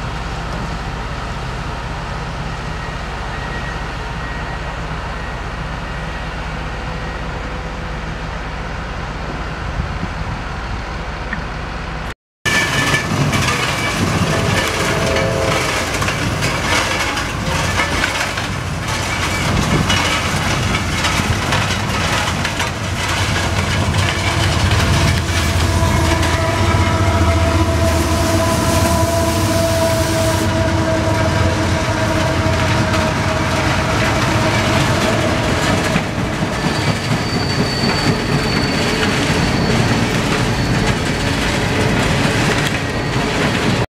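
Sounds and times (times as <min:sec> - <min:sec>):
diesel locomotives passing: 0:00.0 - 0:43.8
locomotive whine: 0:00.0 - 0:43.9
track machine diesel engine: 0:00.0 - 0:43.9.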